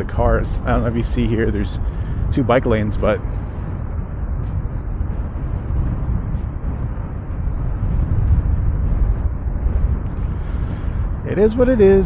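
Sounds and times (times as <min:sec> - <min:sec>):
scooter road rumble: 0:00.0 - 0:12.0
wind noise on microphone: 0:00.0 - 0:12.0.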